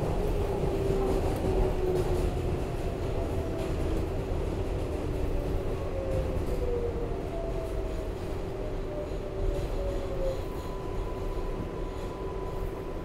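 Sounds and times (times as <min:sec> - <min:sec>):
subway wheels rumbling on rails: 0:00.0 - 0:13.0.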